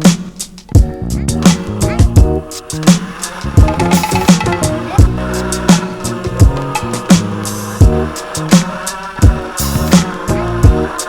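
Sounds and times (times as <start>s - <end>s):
funk music with bass drums guitar: 0.0s - 11.0s.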